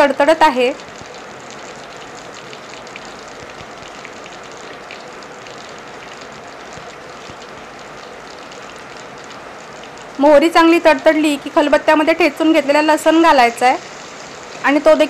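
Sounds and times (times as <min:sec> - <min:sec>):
heavy rain hissing: 0:00.0 - 0:15.0
seeds spluttering in hot oil: 0:00.0 - 0:15.0.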